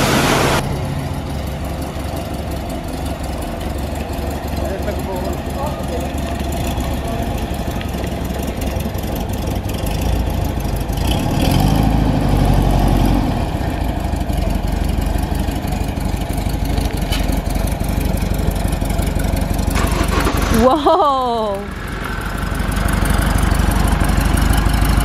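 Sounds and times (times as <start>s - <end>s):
van engine running: 0.0s - 25.0s.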